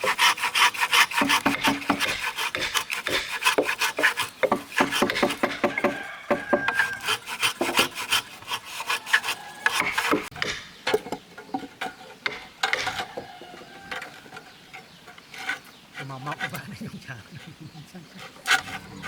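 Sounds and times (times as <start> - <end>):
hand tool scraping wood: 0.0 - 19.0.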